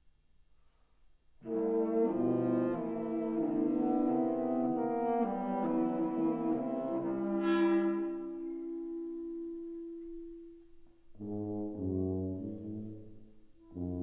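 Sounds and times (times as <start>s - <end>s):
orchestral music with brass: 1.4s - 14.0s.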